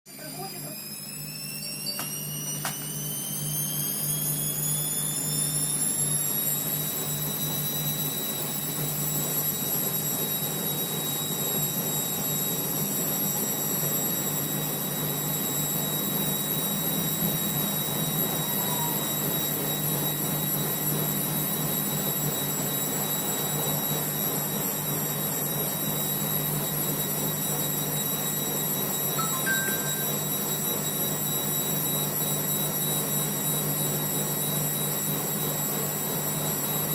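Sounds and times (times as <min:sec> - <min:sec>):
washing machine high-pitched whistle: 0:00.1 - 0:36.9.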